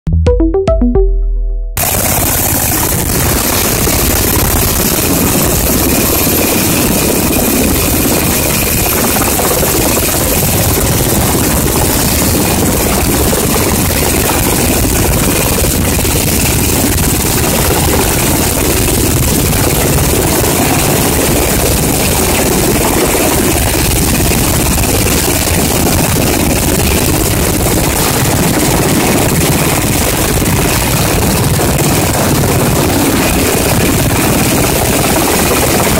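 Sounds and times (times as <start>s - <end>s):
helicopter rotor and turbine noise: 1.8s - 35.9s.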